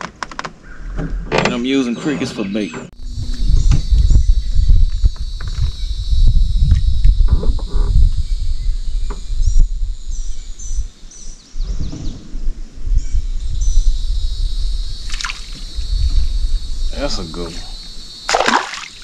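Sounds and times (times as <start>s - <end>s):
birds chirping: 0.6s - 6.0s, 8.2s - 19.0s
wind rumbling on microphone: 2.9s - 19.0s.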